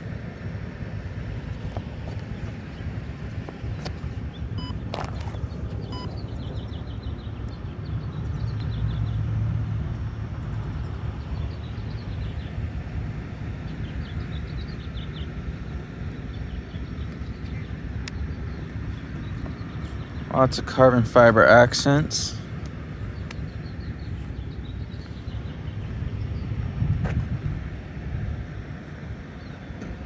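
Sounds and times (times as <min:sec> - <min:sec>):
steady low rumble: 0:00.0 - 0:30.0
small birds chirping: 0:01.5 - 0:26.8, 0:28.9 - 0:30.0.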